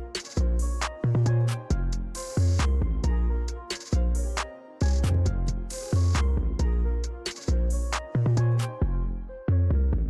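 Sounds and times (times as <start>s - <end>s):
music with bass and drums: 0.0s - 8.8s.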